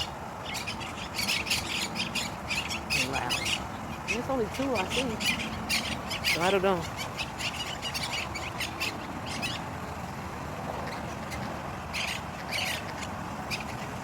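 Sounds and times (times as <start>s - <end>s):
parakeets squawking: 0.0s - 14.0s.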